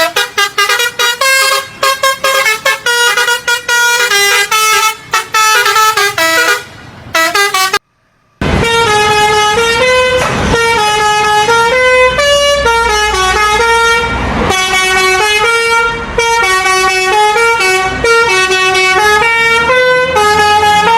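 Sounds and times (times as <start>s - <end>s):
musical bus horn tune: 0.0s - 20.9s.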